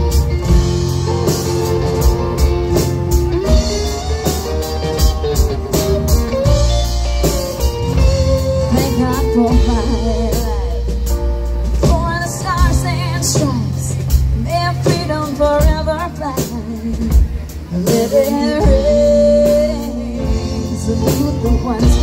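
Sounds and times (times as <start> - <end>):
live country-rock band: 0.0 - 22.0.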